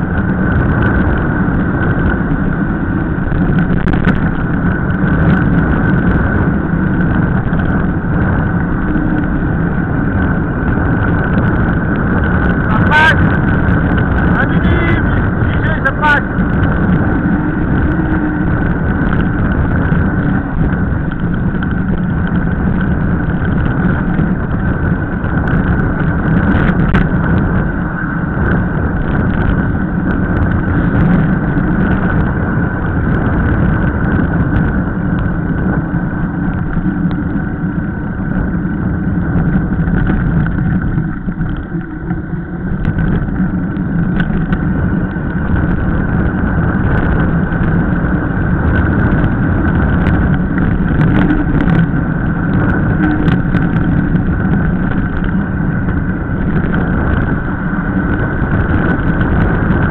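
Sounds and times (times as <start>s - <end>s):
bike tyres on wet asphalt: 0.0s - 59.9s
wind on microphone: 0.0s - 59.9s.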